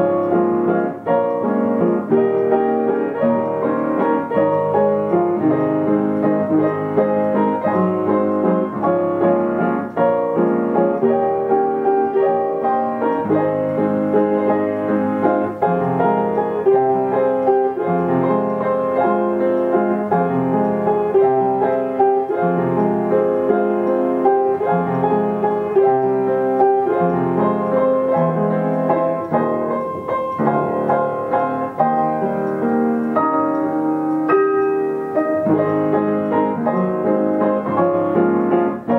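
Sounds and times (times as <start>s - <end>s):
upright piano playing a tune: 0.0s - 38.9s.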